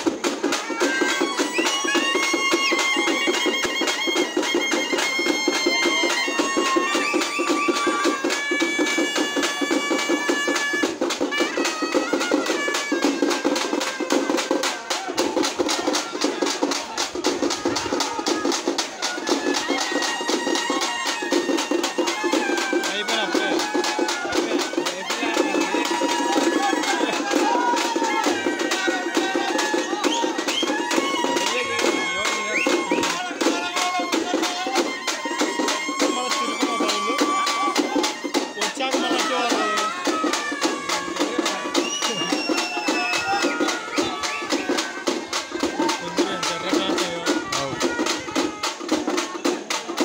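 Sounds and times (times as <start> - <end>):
shrill reed instrument melody: 0.0 - 49.5
fast steady drumming: 0.0 - 50.0.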